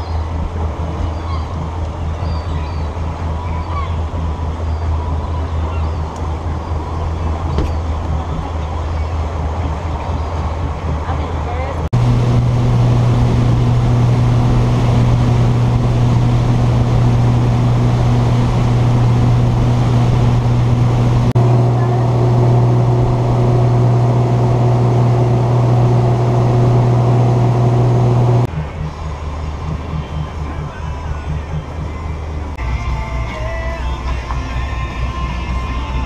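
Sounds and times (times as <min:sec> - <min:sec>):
boat engine drone: 0:00.0 - 0:36.0.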